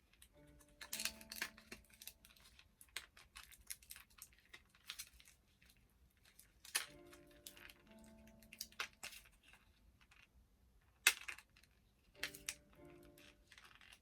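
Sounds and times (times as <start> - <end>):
plastic packaging crinkling: 0.1 - 10.3, 11.0 - 14.0
small plastic accessories clicking: 0.1 - 10.3, 10.9 - 14.0.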